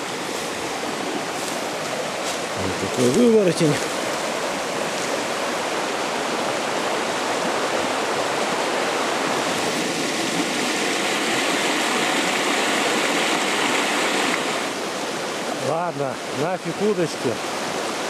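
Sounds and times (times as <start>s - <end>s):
small river flowing: 0.0s - 18.0s.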